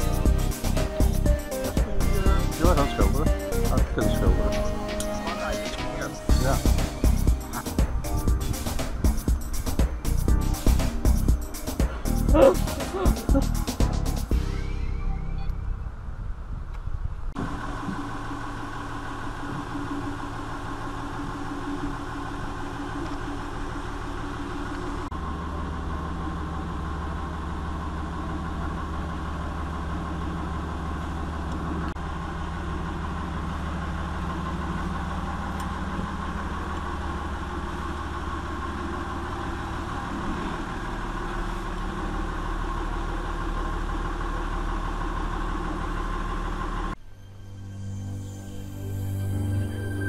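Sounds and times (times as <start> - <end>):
boat engine humming: 0.0 - 50.0.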